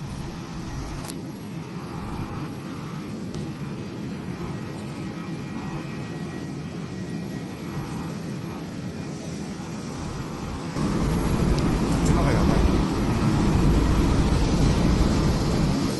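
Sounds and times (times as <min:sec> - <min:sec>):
aircraft engine rumble: 0:00.0 - 0:15.9.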